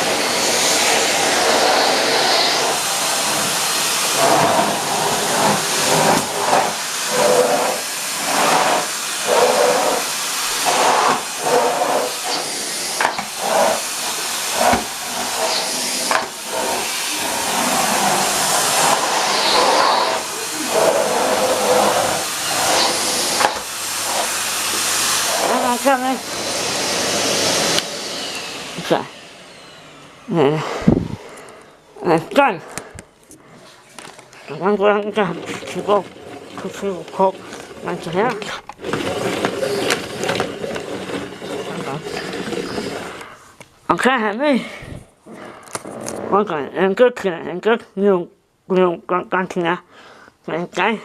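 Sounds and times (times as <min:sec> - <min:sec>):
vacuum cleaner running: 0:00.0 - 0:43.6.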